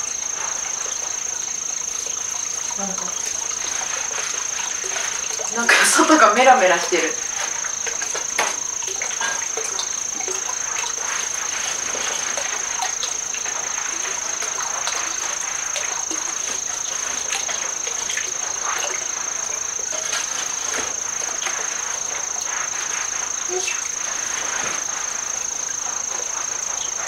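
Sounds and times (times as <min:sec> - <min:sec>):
steady high-pitched whine: 0:00.0 - 0:27.0
towel scrubbing skin: 0:02.7 - 0:27.0.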